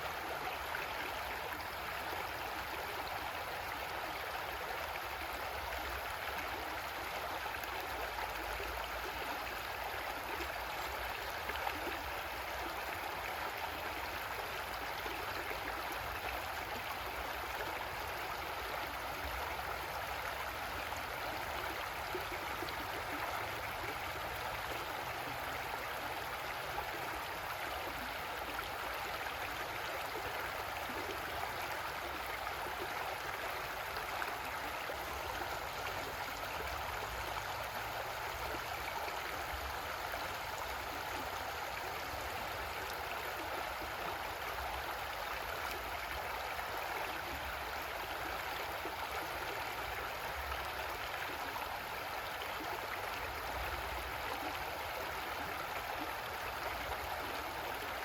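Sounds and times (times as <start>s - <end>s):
creek water flowing over rocks: 0.0s - 58.0s.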